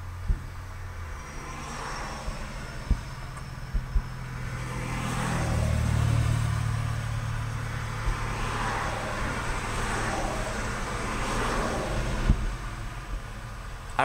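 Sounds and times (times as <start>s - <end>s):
vehicles driving past: 0.0s - 14.0s.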